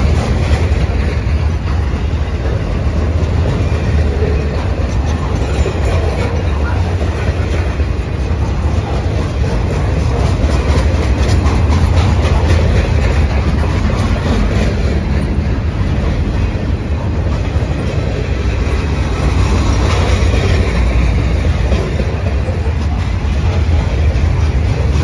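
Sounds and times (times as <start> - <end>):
freight train rolling past: 0.0 - 25.0
wheels clicking over track: 0.0 - 25.0.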